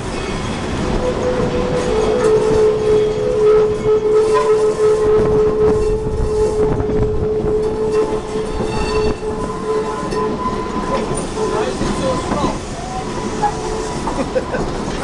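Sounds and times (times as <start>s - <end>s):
train car rumbling and rattling: 0.0s - 15.0s.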